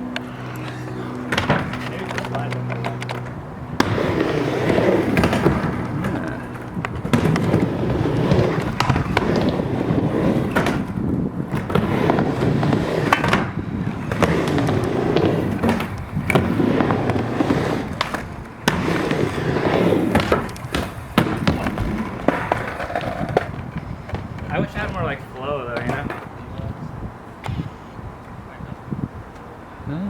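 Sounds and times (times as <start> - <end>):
skateboards clacking on ramp: 0.0 - 26.8
skateboard wheels rumbling: 0.0 - 29.9.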